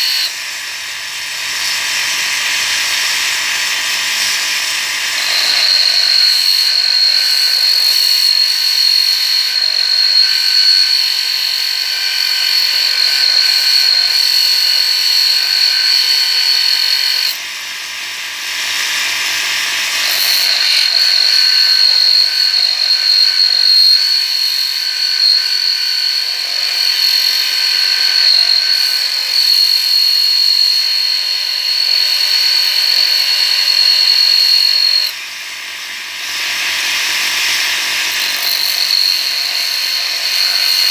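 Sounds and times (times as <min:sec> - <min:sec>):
electric grinder whining: 0:00.0 - 0:40.9.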